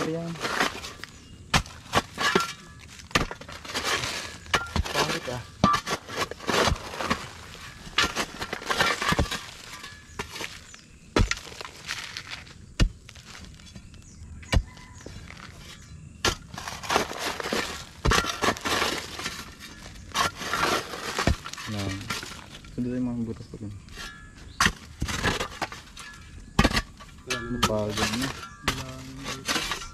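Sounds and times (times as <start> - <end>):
shovel scraping stony soil: 0.0 - 23.0, 23.8 - 29.9.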